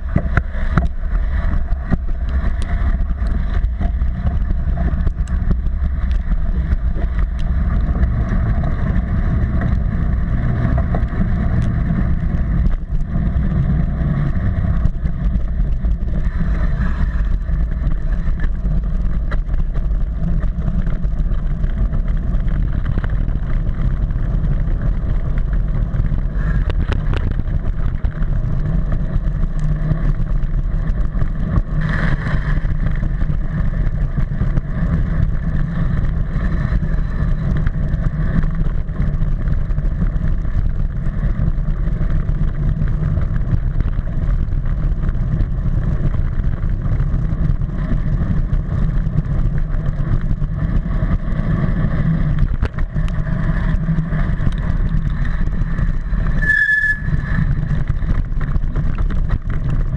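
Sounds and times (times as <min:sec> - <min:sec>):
mountain bike rattling on dirt track: 0:00.0 - 0:59.9
wind on microphone: 0:00.0 - 0:59.9.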